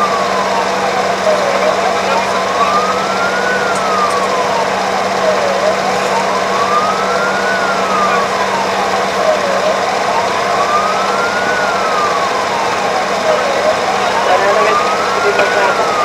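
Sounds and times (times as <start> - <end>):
emergency siren wailing: 0.0 - 16.0
road and engine noise: 0.0 - 16.0.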